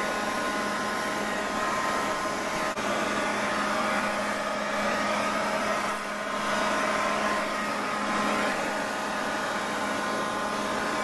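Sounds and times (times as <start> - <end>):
leaf blower motor whine: 0.0 - 11.0.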